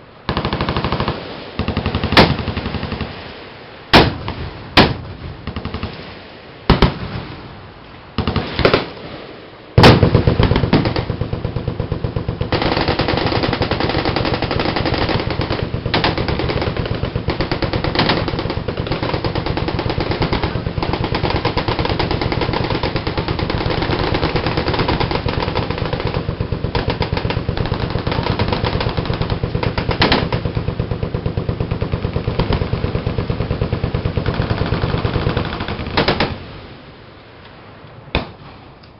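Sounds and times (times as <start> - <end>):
machine-gun fire: 0.3 - 3.2, 3.9 - 6.0, 8.2 - 9.0, 9.8 - 36.5.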